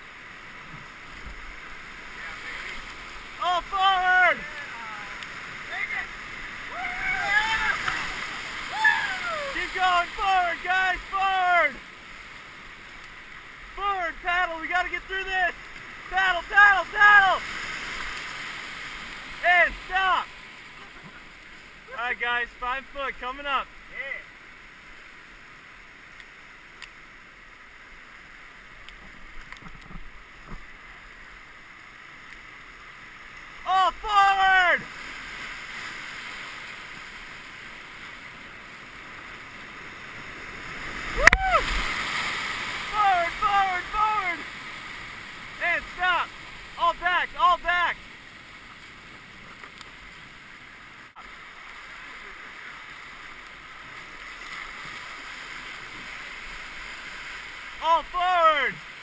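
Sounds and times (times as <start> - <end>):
river rapids rushing: 0.0 - 26.6, 32.8 - 59.0.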